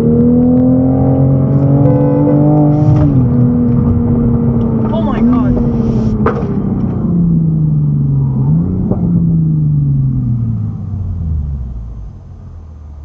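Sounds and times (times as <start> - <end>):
car engine slowing: 0.0 - 13.0
road noise inside car: 0.0 - 13.0.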